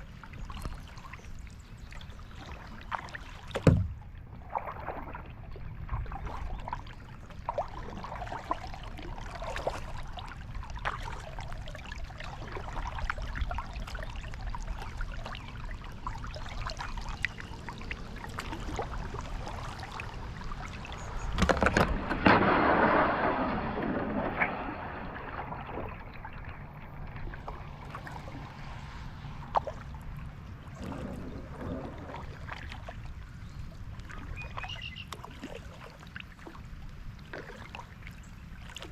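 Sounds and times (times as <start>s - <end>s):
paddle strokes splashing: 0.0s - 38.9s
rush of water: 0.0s - 38.9s
water sloshing against hull: 0.0s - 38.9s.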